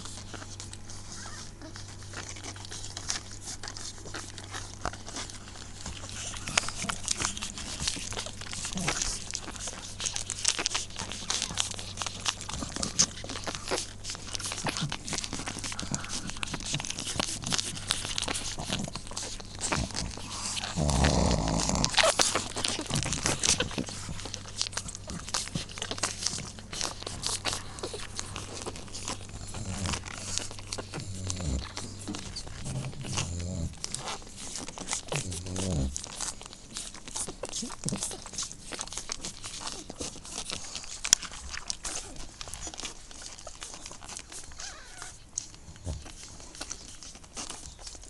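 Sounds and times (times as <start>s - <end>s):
puppies snuffling and stirring: 0.0s - 48.0s.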